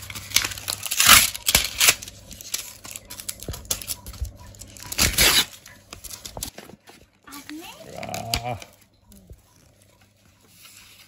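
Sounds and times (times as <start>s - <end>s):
paper packaging rustling and tearing: 0.0s - 11.0s.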